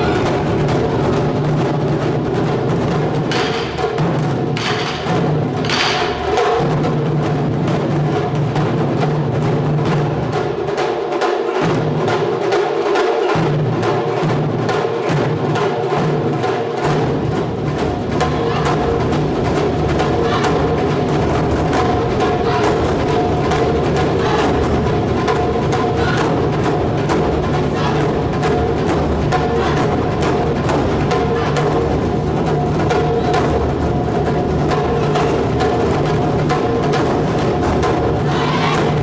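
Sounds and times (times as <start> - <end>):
taiko drums playing fast rhythm: 0.0 - 39.0.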